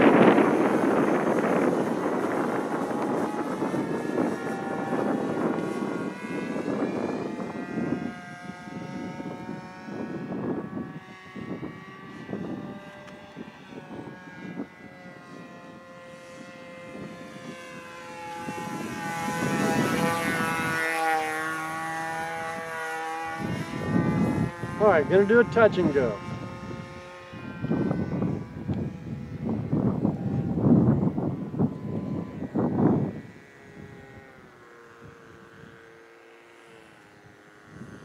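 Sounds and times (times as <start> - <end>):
model airplane engine droning: 0.0 - 38.0.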